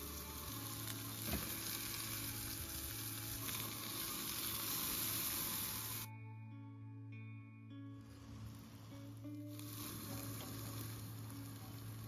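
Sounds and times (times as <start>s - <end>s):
steak sizzling in skillet: 0.0s - 6.1s, 8.1s - 12.0s.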